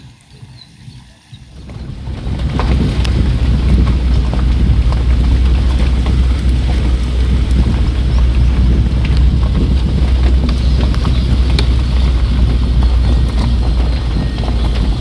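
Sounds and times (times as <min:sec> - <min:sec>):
heavy deep rumble: 0:01.5 - 0:15.0
steady rain: 0:01.5 - 0:15.0.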